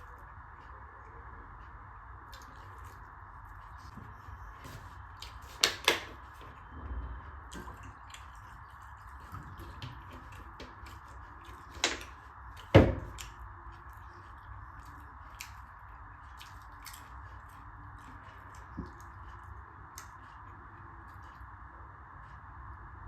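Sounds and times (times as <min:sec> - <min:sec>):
chewing and mouth clicks: 0:02.3 - 0:06.7, 0:07.4 - 0:22.4.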